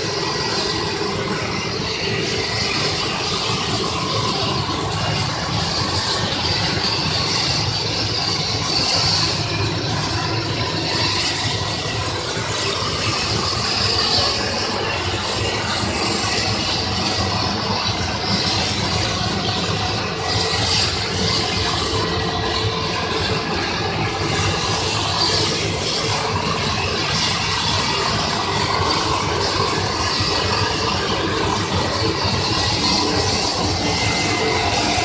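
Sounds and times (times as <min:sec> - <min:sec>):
wire drawing machine drone: 0:00.0 - 0:35.0.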